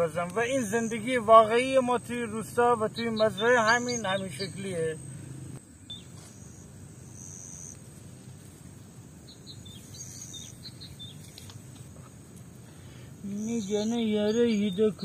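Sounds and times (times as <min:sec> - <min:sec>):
bird calls: 0:00.0 - 0:07.8, 0:09.2 - 0:15.0
high insect drone: 0:00.0 - 0:15.0
insects chirping in bursts: 0:00.0 - 0:15.0
low background noise: 0:00.0 - 0:15.0.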